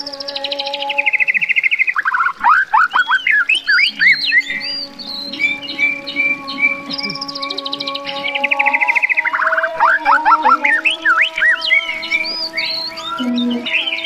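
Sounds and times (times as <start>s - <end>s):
faint steady hum: 0.0s - 14.0s
songbird singing: 0.0s - 14.0s.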